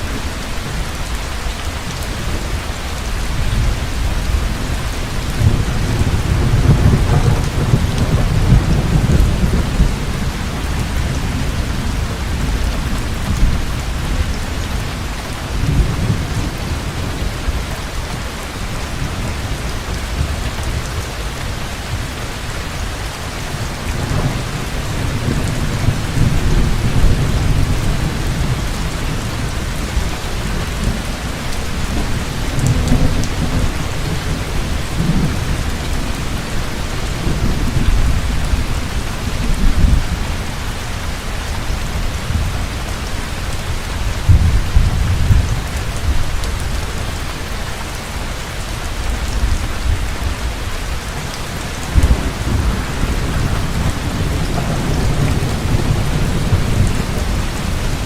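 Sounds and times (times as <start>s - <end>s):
heavy rain falling: 0.0s - 58.0s
low rolling thunder: 1.9s - 18.0s, 23.5s - 47.6s, 49.0s - 58.0s.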